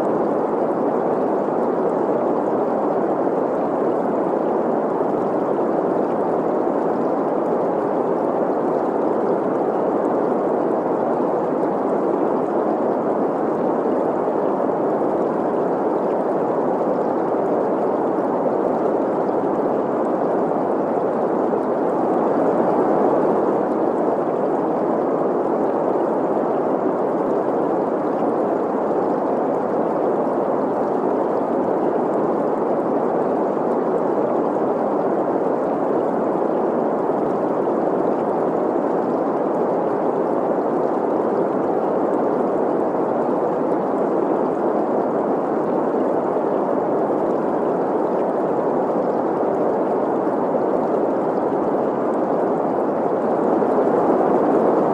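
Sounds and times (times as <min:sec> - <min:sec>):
babbling stream: 0:00.0 - 0:54.9.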